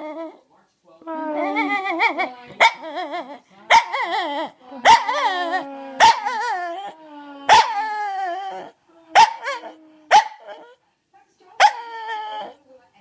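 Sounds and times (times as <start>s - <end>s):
dog barking and yowling: 1.3s - 10.8s, 11.6s - 12.6s.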